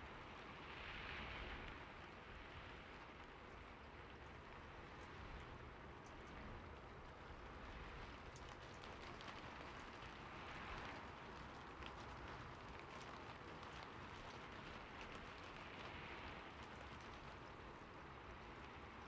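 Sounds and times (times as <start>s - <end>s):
rain on a roof: 0.0s - 19.0s.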